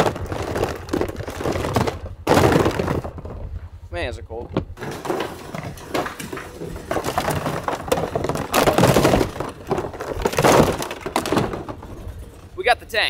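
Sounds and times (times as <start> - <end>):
plastic decoys clattering: 0.0 - 3.5, 4.5 - 12.6.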